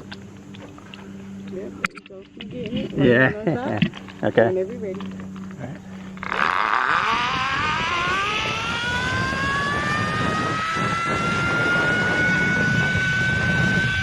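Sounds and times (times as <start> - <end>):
zip-line pulleys whining on cable: 2.5 - 14.0.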